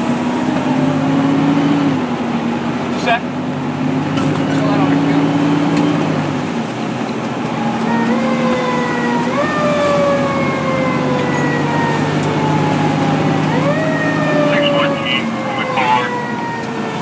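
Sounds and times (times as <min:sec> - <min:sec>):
fire engine siren: 0:00.0 - 0:17.0
truck engine running: 0:00.0 - 0:17.0.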